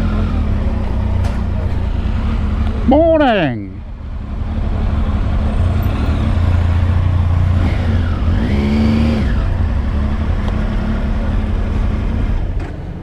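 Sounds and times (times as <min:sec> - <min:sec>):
motorcycle engine low drone: 0:00.0 - 0:13.0.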